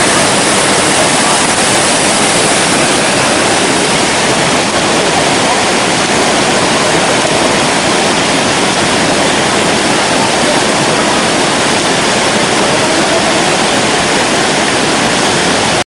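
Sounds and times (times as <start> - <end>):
waterfall rushing over rock: 0.0 - 15.8.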